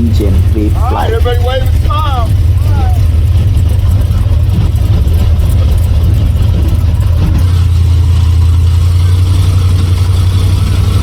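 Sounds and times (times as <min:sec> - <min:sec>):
airboat engine and propeller: 0:00.0 - 0:11.0.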